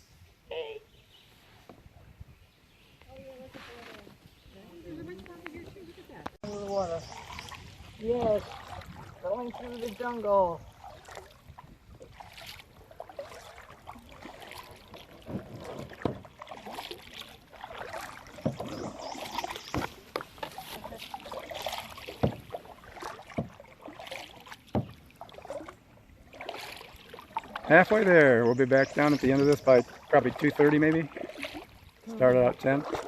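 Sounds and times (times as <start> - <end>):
paddle splashing: 2.7 - 33.0.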